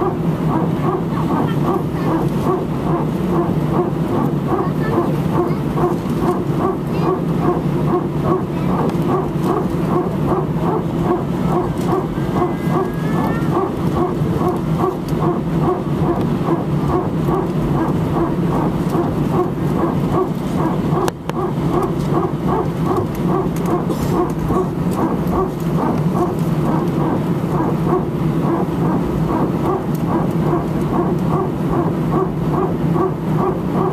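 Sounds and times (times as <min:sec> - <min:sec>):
aircraft cabin hum: 0:00.0 - 0:33.9
hydraulic pump barking whine: 0:00.0 - 0:33.9.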